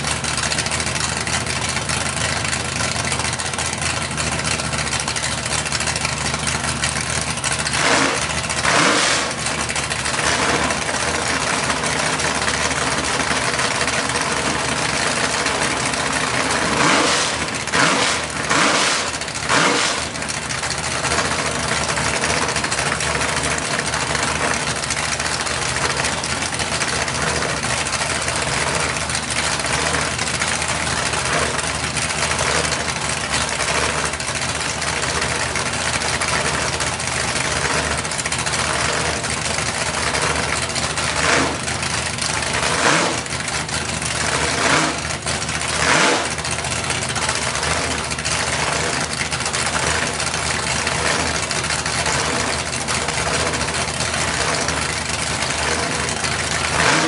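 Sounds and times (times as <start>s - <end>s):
car engines idling: 0.0s - 57.0s
engine revs: 0.0s - 57.0s.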